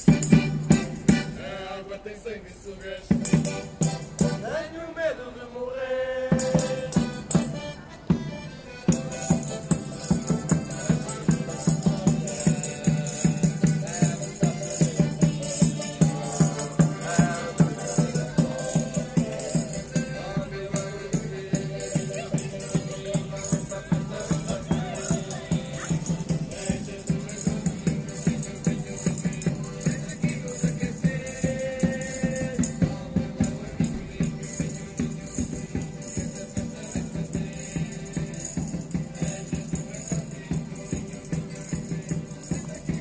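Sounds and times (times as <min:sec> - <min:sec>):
tambourines jingling: 0:00.0 - 0:01.4, 0:06.3 - 0:07.5, 0:08.7 - 0:43.0.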